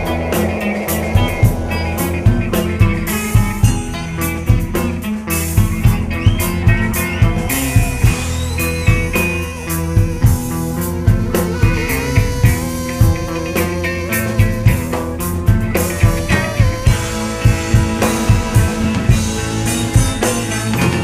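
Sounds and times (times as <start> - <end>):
bluesy rock band playing: 0.0 - 21.0.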